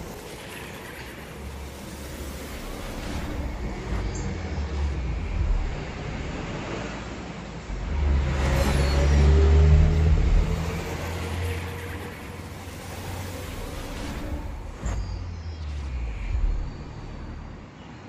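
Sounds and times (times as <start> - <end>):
vehicle engine passing by: 2.6 - 17.7.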